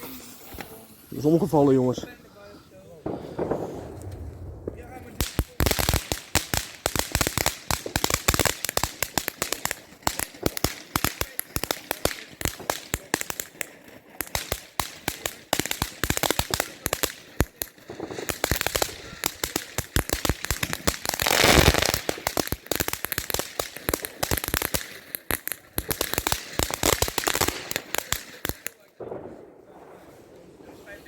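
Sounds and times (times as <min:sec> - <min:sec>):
fireworks crackling and popping: 0:00.0 - 0:31.0
loud firework burst: 0:03.0 - 0:13.6, 0:14.2 - 0:30.1.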